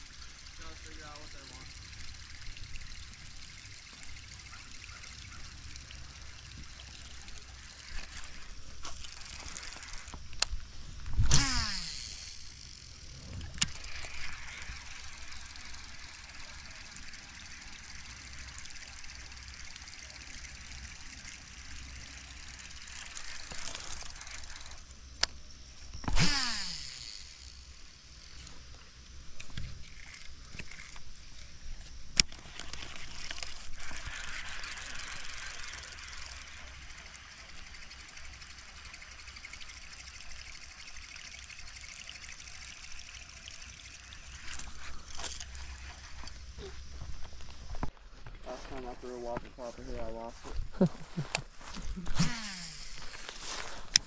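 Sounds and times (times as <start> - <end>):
fishing reel spool whirring: 0.0 - 47.9, 51.3 - 54.0.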